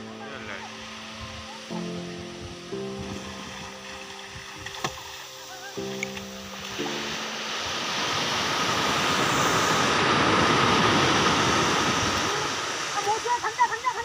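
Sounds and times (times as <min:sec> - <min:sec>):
wave breaking on sand beach: 0:02.6 - 0:14.0.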